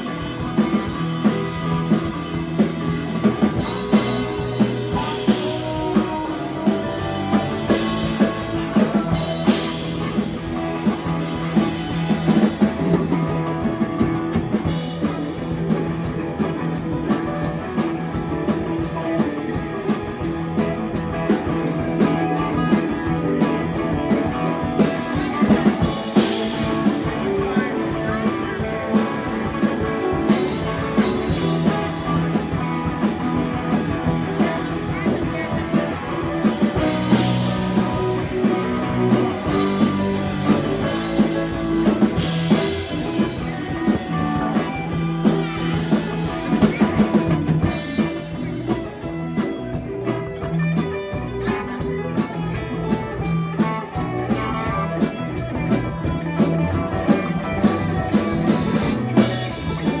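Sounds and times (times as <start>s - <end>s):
drum kit beat: 0.0s - 60.0s
guitar: 0.0s - 60.0s
live rock band playing: 0.0s - 60.0s.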